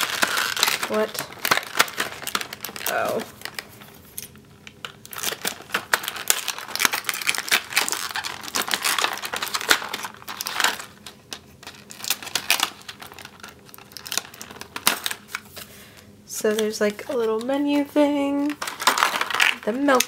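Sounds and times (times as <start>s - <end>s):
plastic packaging crinkling: 0.0s - 15.7s, 16.5s - 20.0s.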